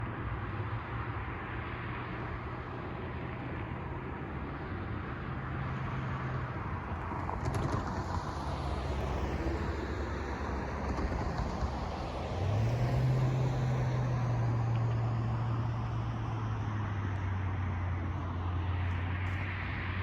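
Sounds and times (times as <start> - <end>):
low engine hum: 0.0 - 20.0
outdoor noise: 0.0 - 20.0.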